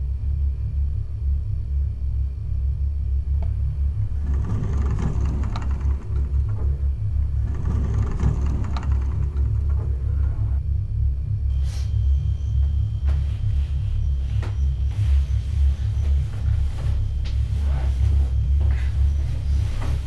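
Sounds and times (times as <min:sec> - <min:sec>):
deep rumbling drone: 0:00.0 - 0:20.0.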